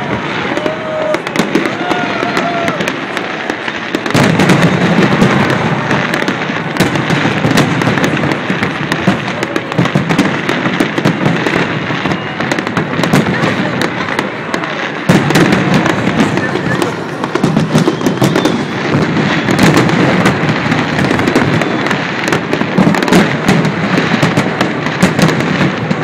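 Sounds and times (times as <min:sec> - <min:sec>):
fireworks booming and crackling: 0:00.0 - 0:26.0.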